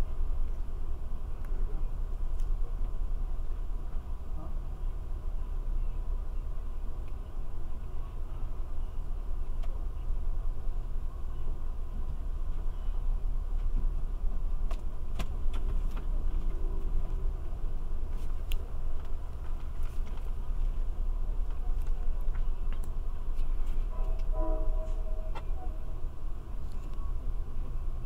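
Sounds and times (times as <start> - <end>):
low rumble inside train car: 0.0 - 28.0.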